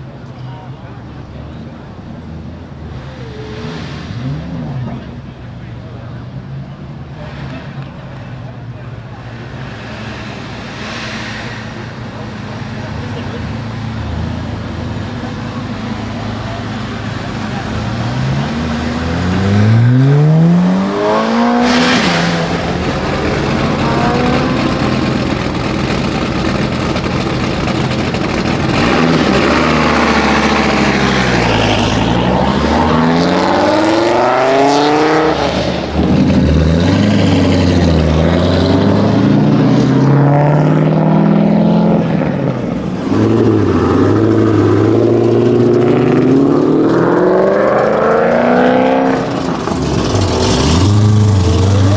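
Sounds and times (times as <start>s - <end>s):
car engines revving and accelerating: 0.0s - 51.9s.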